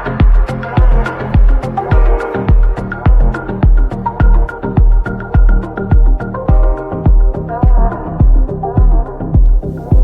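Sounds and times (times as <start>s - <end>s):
electronic music: 0.0s - 10.0s
heavy kick drum: 0.0s - 10.0s.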